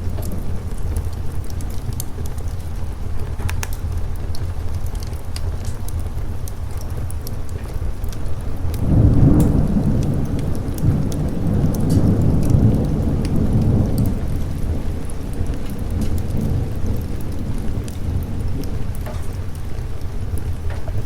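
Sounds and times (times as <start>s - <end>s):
fireplace crackling: 0.0s - 21.0s
steady rain: 0.0s - 21.0s
thunder rolling: 0.0s - 21.0s.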